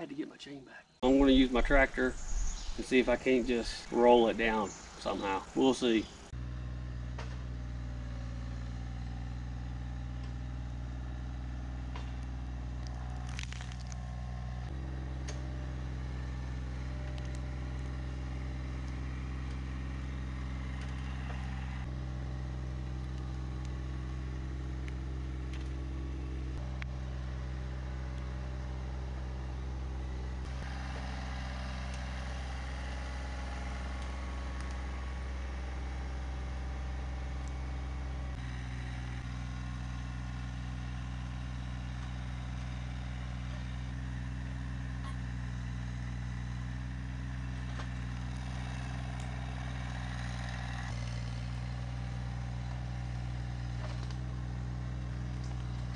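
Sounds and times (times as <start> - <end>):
tractor diesel engine running: 1.0 - 55.9.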